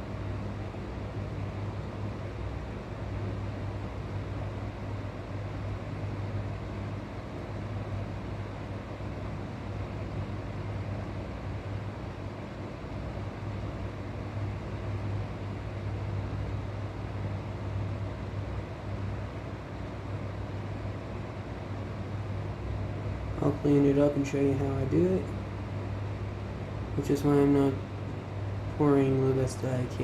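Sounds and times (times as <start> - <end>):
machine hum with low drone: 0.0 - 30.0.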